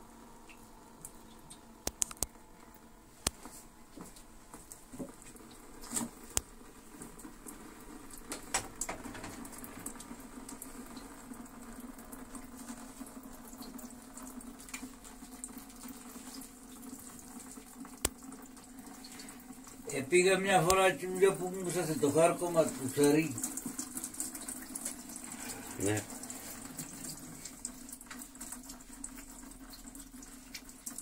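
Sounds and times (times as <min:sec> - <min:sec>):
liquid sloshing and dripping: 0:00.4 - 0:19.9, 0:20.6 - 0:31.0.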